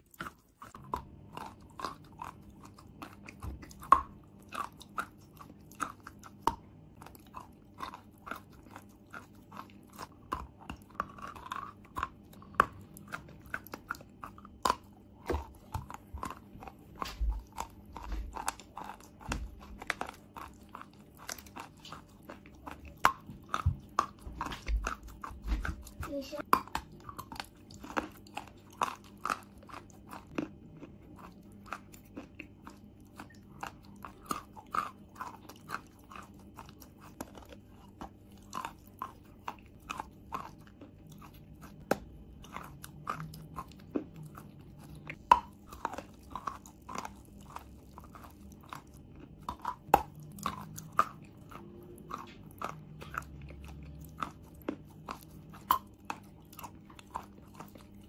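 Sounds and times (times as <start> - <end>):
chalk crunching when chewed: 0.0 - 58.0.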